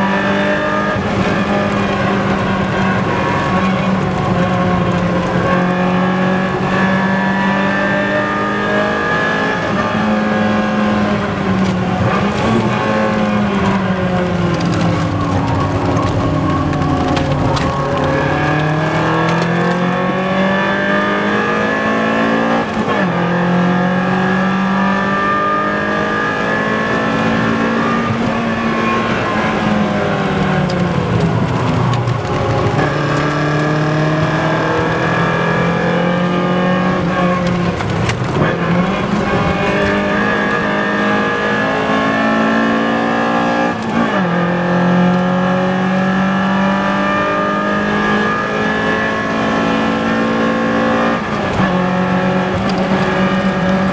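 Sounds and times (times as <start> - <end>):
car engine revving hard: 0.0 - 53.9.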